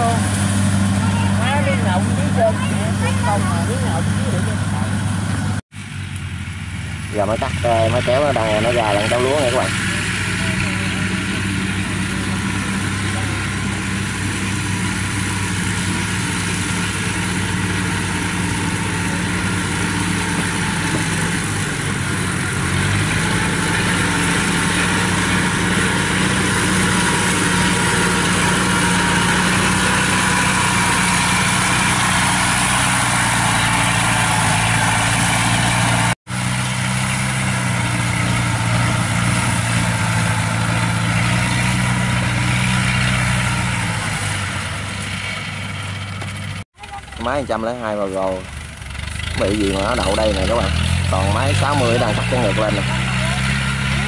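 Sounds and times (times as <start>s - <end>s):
harvester engine running under load: 0.0s - 54.0s.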